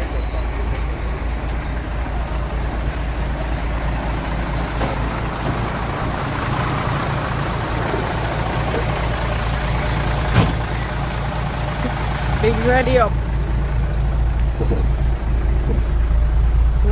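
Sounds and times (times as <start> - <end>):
truck engine idling: 0.0 - 16.9.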